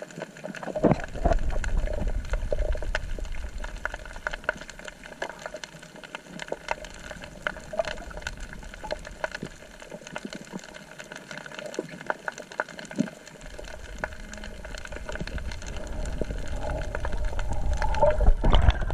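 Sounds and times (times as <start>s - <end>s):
low rumble of water movement: 0.0s - 18.9s
sharp underwater clicks and crackles: 0.0s - 18.9s
water rushing: 0.0s - 18.9s.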